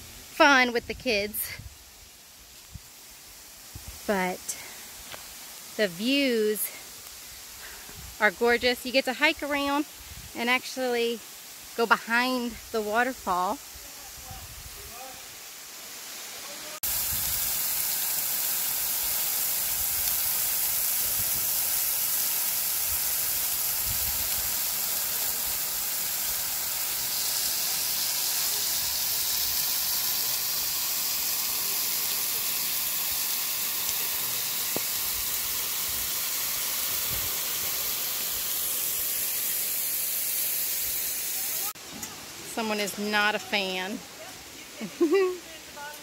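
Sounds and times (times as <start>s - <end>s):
waterfall hiss: 0.0s - 46.0s.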